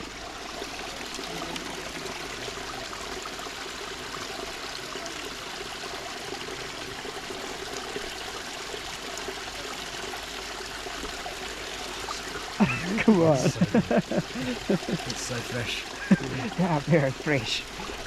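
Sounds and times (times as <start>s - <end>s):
spring water trickling: 0.0s - 18.0s.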